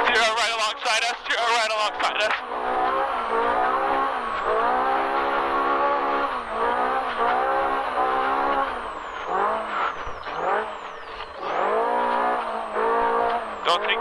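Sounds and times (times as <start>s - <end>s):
utility vehicle engine revving: 0.0s - 14.0s.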